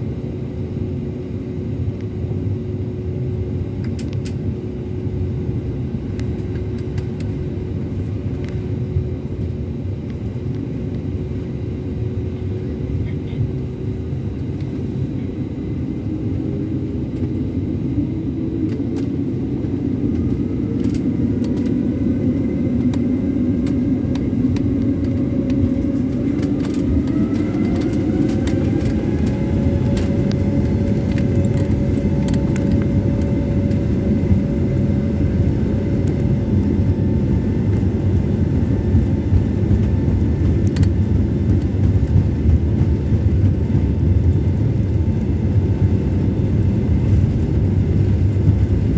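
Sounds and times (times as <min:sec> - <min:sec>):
jet engines spooling up: 0:06.0 - 0:48.9.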